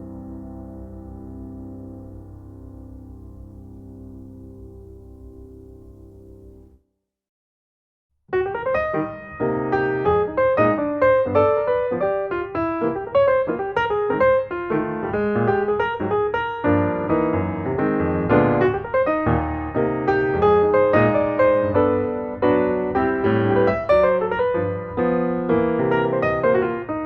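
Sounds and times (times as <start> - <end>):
piano music: 0.0 - 6.8, 8.3 - 27.0.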